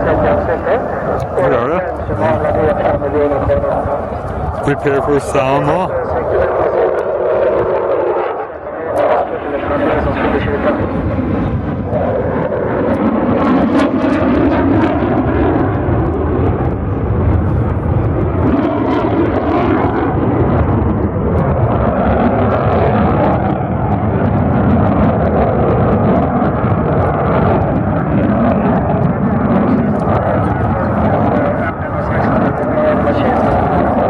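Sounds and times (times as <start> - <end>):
fighter jet engine rumble: 0.0 - 34.0.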